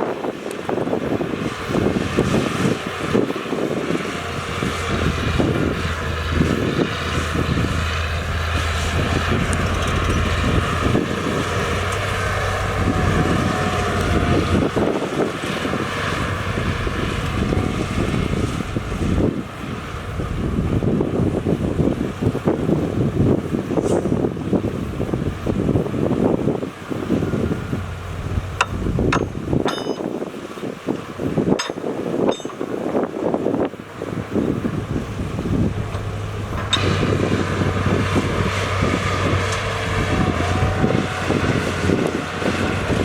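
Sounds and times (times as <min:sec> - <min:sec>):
heavy machinery diesel engine: 0:00.0 - 0:43.0
wind noise on microphone: 0:00.0 - 0:43.0.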